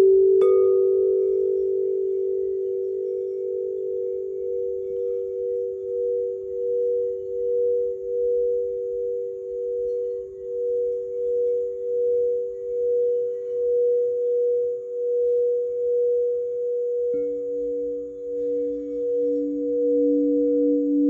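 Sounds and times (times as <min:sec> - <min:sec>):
crystal singing bowls ringing: 0:00.0 - 0:21.0
lower bowl struck: 0:00.0 - 0:21.0.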